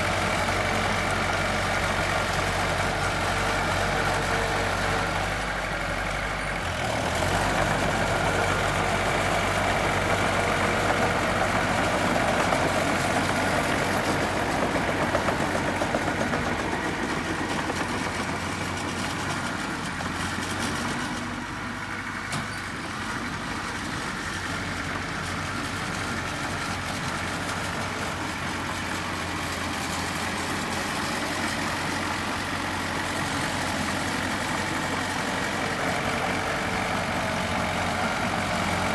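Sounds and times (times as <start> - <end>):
heavy machinery engine running: 0.0 - 38.9.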